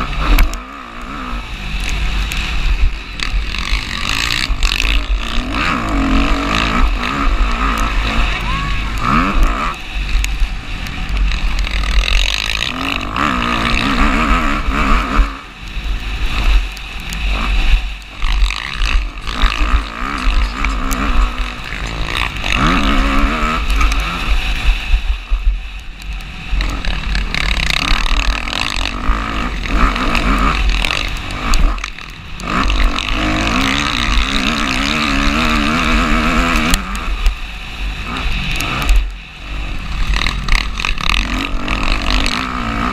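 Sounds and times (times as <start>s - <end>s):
heavy low rumble: 0.0s - 42.9s
motocross bike engine revving: 0.0s - 42.9s.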